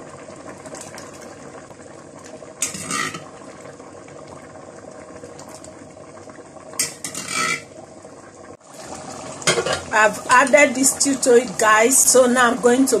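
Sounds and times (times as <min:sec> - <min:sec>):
rice boiling and bubbling: 0:00.0 - 0:13.0.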